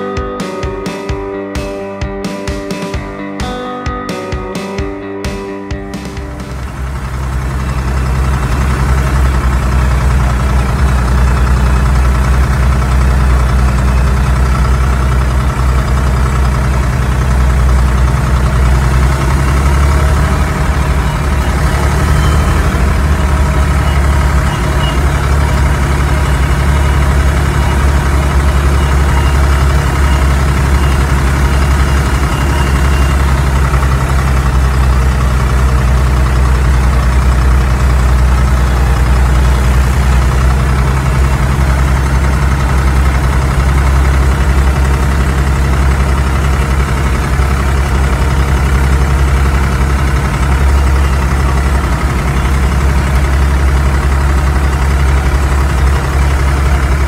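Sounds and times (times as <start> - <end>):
diesel tractor engine droning: 5.8 - 57.0.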